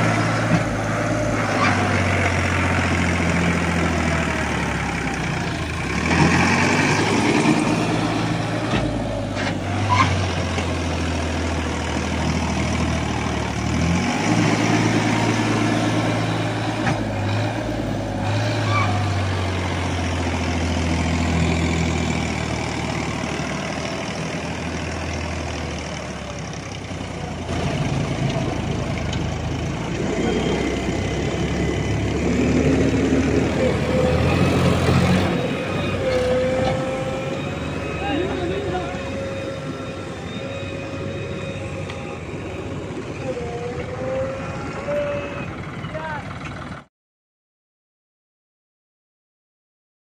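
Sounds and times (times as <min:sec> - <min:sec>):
tractor diesel engine under load: 0:00.0 - 0:46.9.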